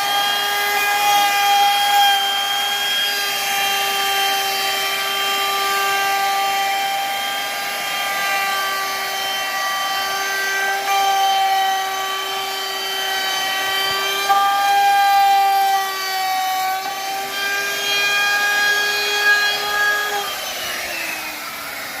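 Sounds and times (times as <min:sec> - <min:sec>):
power tool motor whining: 0:00.0 - 0:22.0.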